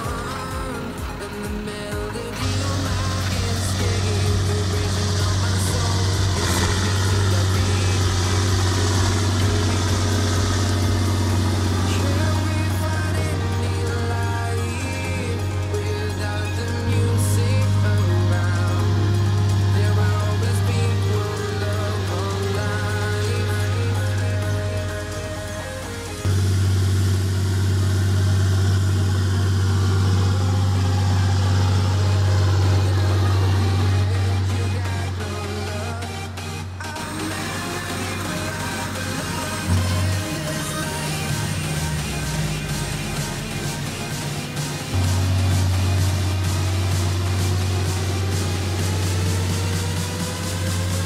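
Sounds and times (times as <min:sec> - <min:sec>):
tractor diesel engine droning: 0:00.0 - 0:51.0.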